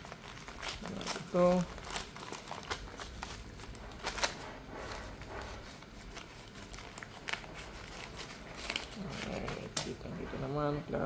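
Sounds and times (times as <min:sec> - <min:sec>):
sharp paper crackles: 0:00.0 - 0:10.0
paper rustling and crinkling: 0:00.0 - 0:10.3.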